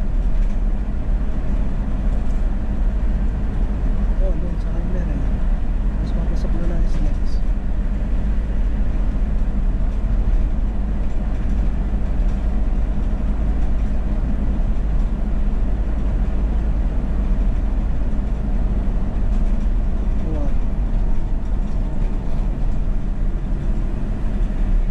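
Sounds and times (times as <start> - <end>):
car cabin road rumble: 0.0 - 24.9.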